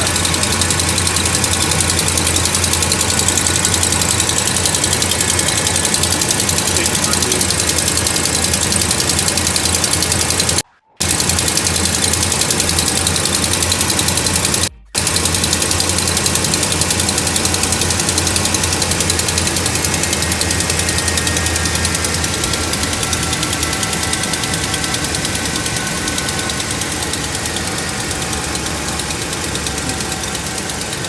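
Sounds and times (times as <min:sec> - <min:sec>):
fast even ticking: 0:00.0 - 0:31.0
truck engine running: 0:00.0 - 0:31.0.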